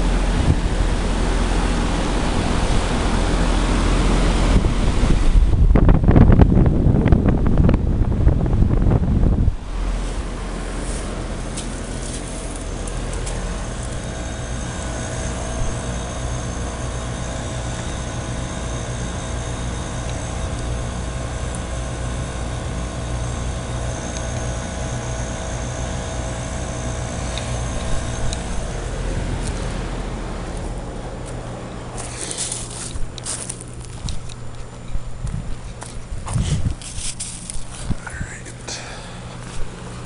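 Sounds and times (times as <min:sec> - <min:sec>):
compressor hum: 0:00.0 - 0:40.0
condenser fan rushing: 0:00.0 - 0:40.0.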